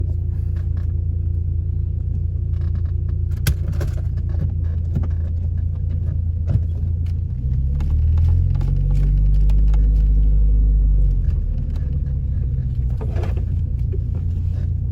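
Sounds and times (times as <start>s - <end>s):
car engine and road rumble: 0.0s - 14.9s.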